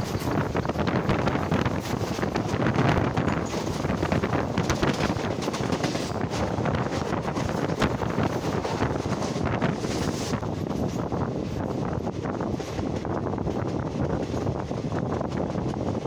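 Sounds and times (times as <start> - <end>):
knocks and clatter: 0.0 - 14.5
train rumble: 0.0 - 16.0
wind buffeting microphone: 0.0 - 16.0.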